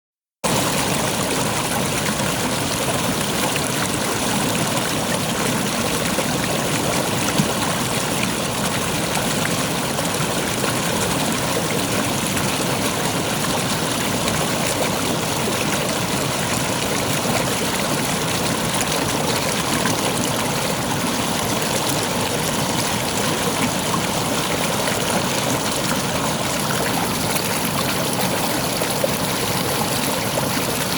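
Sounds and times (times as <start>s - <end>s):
river water flowing: 0.5s - 30.9s.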